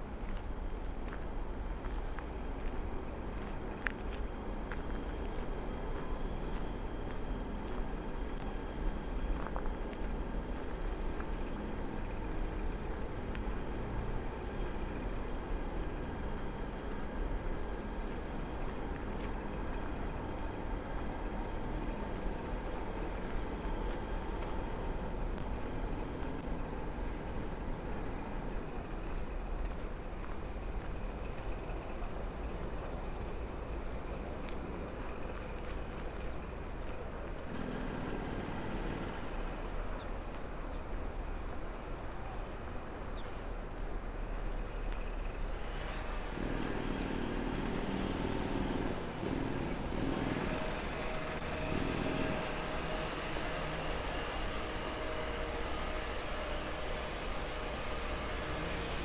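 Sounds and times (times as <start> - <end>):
city street traffic rumble: 0.0 - 59.0
vehicles passing: 0.0 - 59.0.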